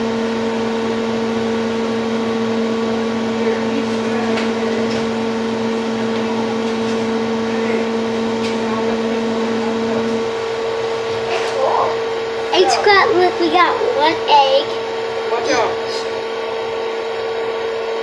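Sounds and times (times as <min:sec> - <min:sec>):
appliance motor humming: 0:00.0 - 0:18.0.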